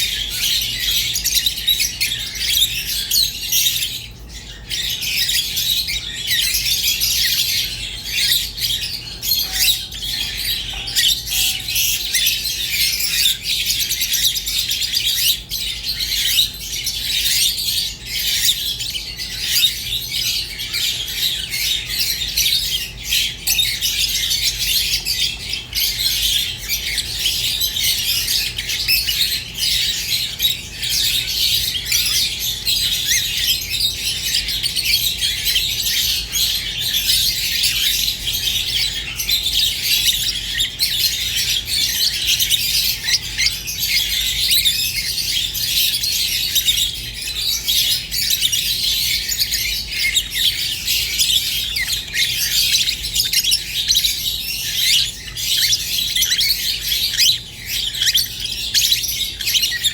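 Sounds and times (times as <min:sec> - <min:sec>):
budgerigars warbling and chattering: 0:00.0 - 0:59.9.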